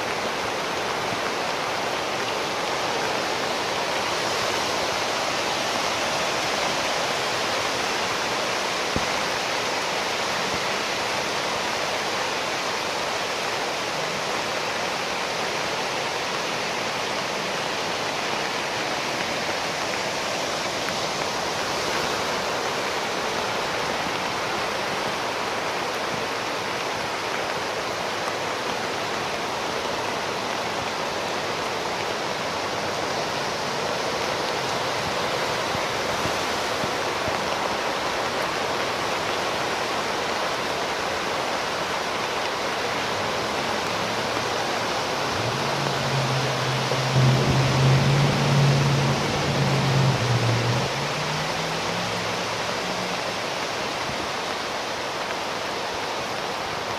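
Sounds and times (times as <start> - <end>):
floodwater rushing down channel: 0.0 - 56.9.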